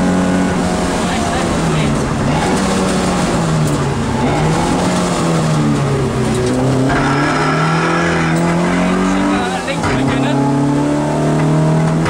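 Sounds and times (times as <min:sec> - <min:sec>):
rally car engine running: 0:00.0 - 0:12.0.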